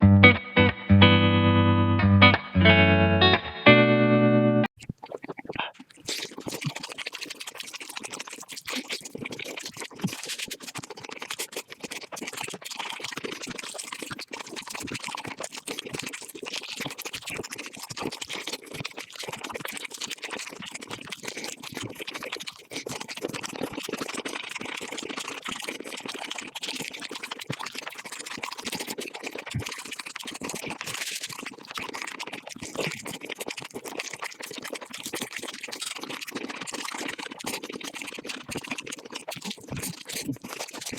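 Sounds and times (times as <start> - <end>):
sped-up chewing and crunching: 4.8 - 40.9.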